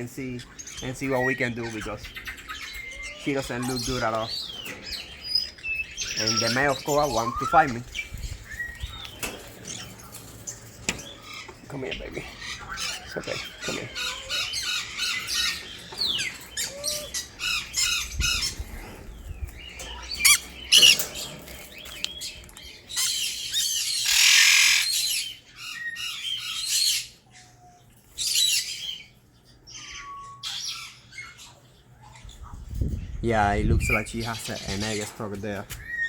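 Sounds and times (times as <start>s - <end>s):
parrots squawking and chirping: 0.0s - 35.2s.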